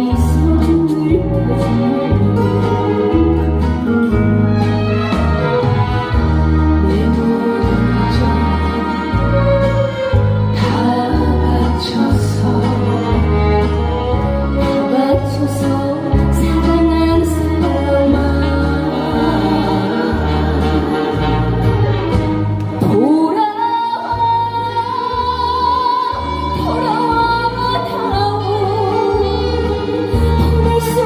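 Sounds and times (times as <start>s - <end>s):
woman singing: 0.0s - 21.8s, 22.8s - 31.0s
amplified band with bass beat: 0.0s - 31.0s.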